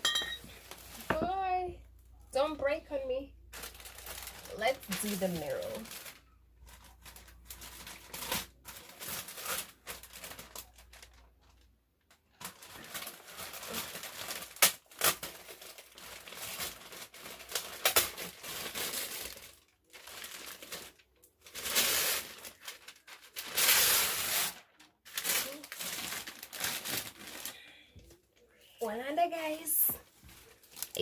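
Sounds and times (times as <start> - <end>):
packaging crinkling and tearing: 3.5 - 27.7, 30.3 - 31.0.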